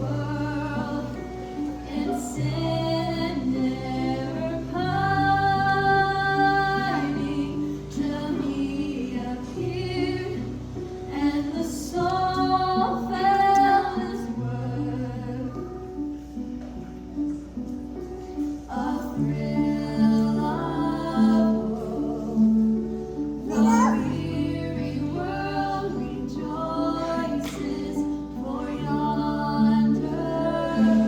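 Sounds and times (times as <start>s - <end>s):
woman singing: 0.0s - 16.2s, 18.6s - 31.0s.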